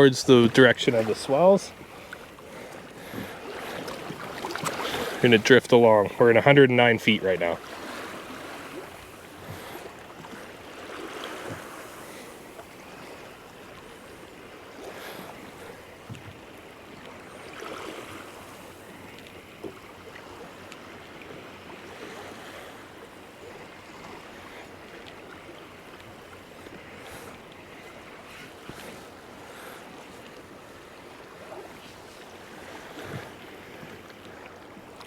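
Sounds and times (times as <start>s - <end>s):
water sloshing against kayak hull: 0.0s - 35.0s.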